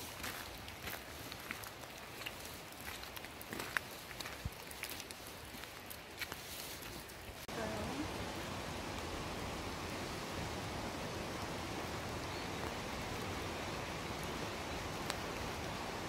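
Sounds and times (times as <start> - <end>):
rain falling on forest: 0.0 - 16.0.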